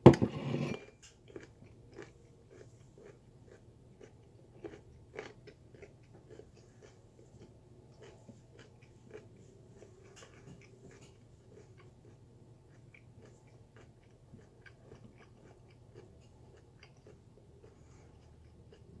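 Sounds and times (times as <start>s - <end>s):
person chewing crunchy food: 0.8s - 19.0s.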